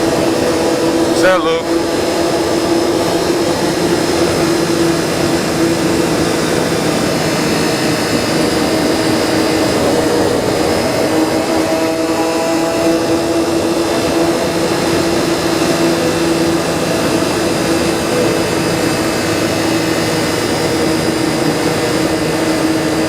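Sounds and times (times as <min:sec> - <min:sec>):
motorcycle engine cruising: 0:00.0 - 0:23.0
wind noise: 0:00.0 - 0:23.0.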